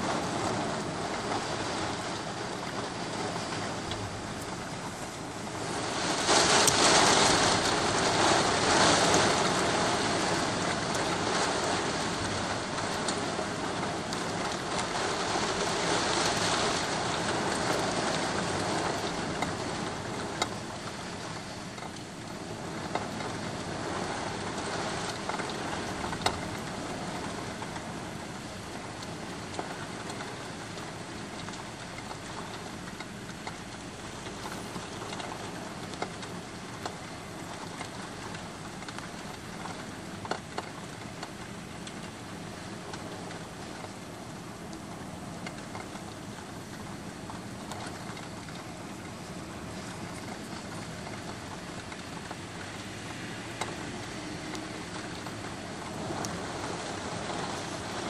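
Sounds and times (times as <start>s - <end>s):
heavy rain on a street: 0.0s - 58.0s.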